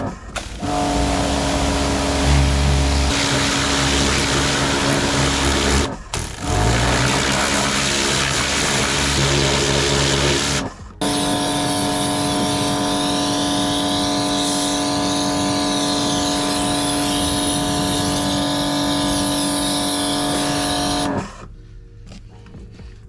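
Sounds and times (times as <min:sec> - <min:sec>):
spray hissing: 0:00.0 - 0:21.2
pressure washer motor hum: 0:00.0 - 0:21.5.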